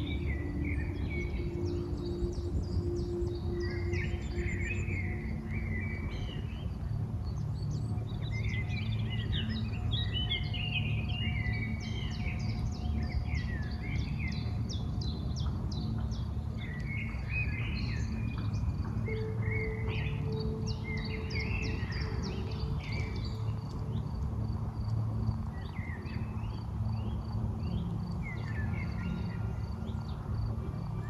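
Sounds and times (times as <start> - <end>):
low outdoor background rumble: 0.0 - 31.0
songbirds singing and chirping: 0.0 - 31.0.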